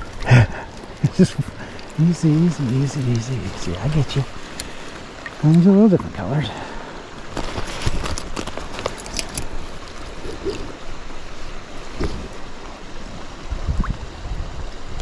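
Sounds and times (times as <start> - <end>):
splashes and drips: 0.0 - 15.0
stream water running: 0.0 - 15.0.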